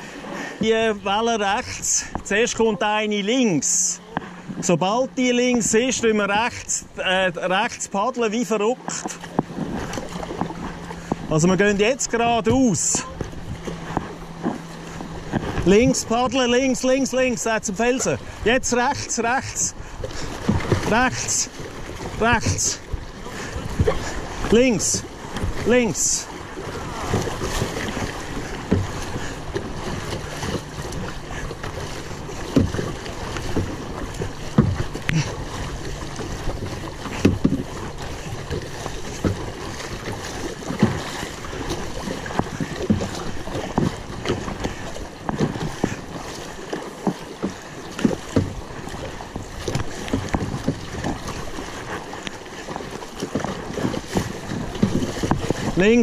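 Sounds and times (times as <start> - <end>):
paddle strokes splashing: 0.0 - 56.0
river water rushing: 0.0 - 56.0.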